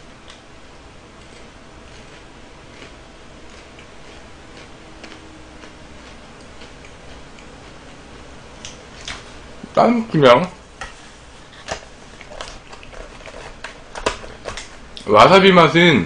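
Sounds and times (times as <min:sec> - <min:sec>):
faint crunchy chewing: 0:01.1 - 0:09.8, 0:10.8 - 0:15.1.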